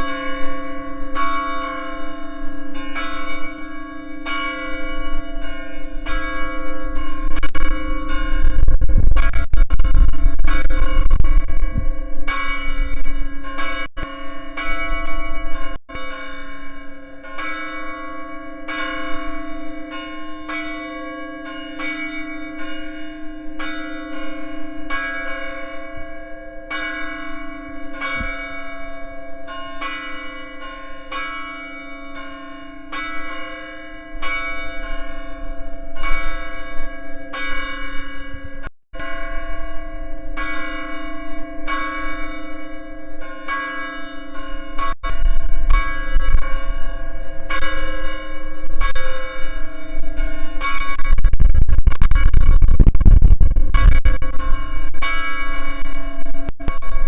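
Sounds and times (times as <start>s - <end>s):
church bells ringing: 0.0s - 51.2s, 53.7s - 57.0s.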